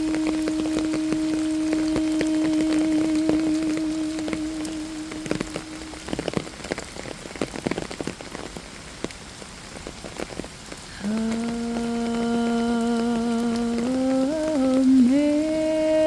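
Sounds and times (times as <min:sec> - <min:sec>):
rain hiss: 0:00.0 - 0:16.0
raindrops pattering: 0:00.0 - 0:16.0.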